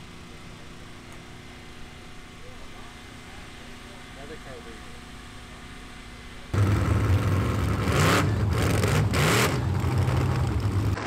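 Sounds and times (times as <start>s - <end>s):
boat engine with open exhaust: 0.0s - 11.0s.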